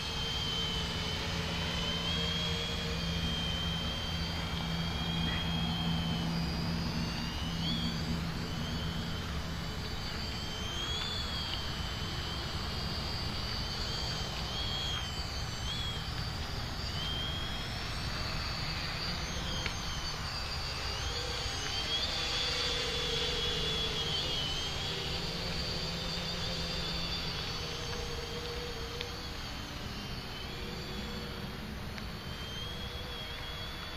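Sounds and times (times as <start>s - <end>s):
quadcopter motors whining: 0.0s - 33.9s.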